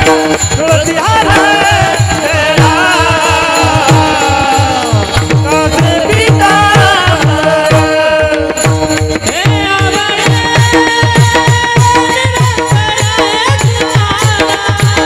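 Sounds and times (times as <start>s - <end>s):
person singing devotional melody: 0.0s - 15.0s.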